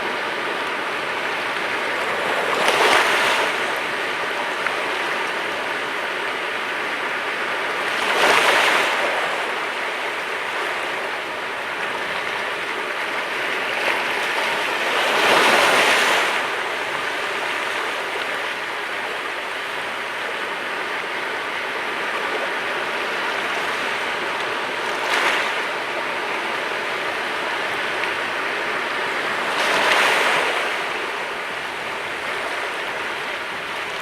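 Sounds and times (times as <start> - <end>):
sea waves breaking: 0.0 - 34.0.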